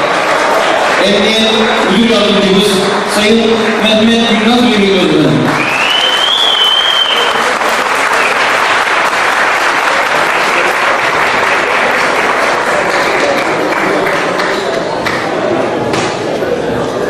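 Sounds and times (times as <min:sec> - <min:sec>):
audience applauding: 0:00.0 - 0:15.6.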